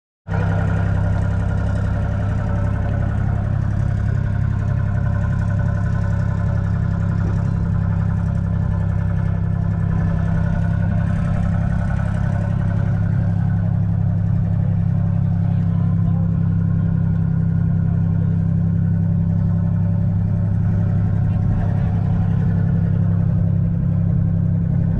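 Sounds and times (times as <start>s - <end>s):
diesel engine idling: 0.3s - 24.9s.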